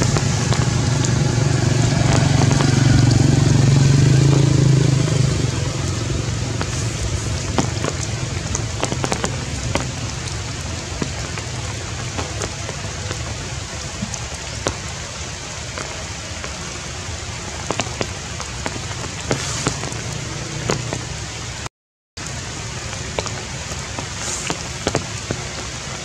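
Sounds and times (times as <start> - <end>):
heavy rain on leaves: 0.0 - 26.0
sharp raindrop impacts: 0.0 - 26.0.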